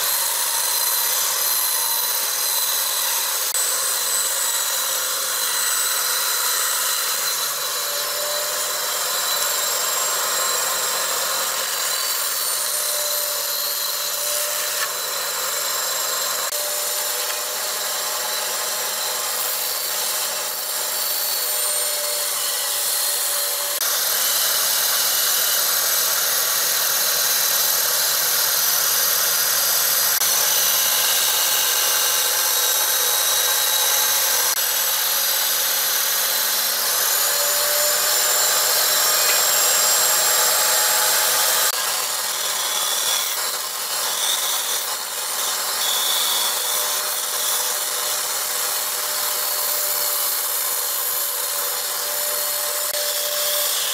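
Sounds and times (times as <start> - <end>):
band saw cutting wood: 0.0 - 53.9.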